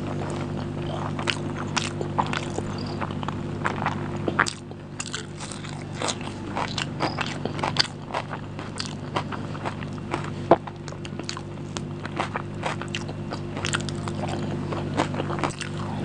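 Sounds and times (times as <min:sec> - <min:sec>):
close chewing with mouth clicks: 0:00.0 - 0:16.0
fingers squishing rice: 0:00.0 - 0:16.0
steady low hum: 0:00.0 - 0:16.0.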